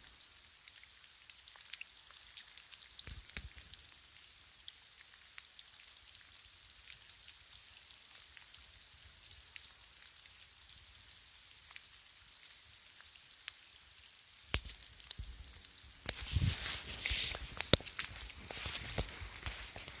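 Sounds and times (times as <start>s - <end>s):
faint steady hiss: 0.0s - 20.0s
water dripping: 0.0s - 20.0s.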